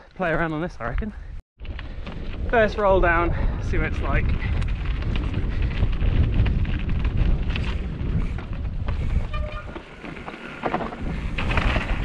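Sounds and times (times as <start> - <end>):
wind buffeting microphone: 0.8 - 12.0
bike tyres rumbling over rock: 1.6 - 12.0.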